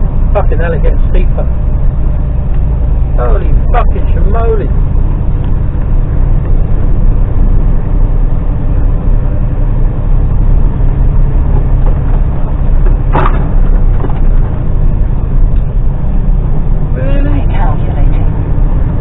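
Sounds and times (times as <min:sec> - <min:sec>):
lorry diesel engine under load: 0:00.0 - 0:19.0.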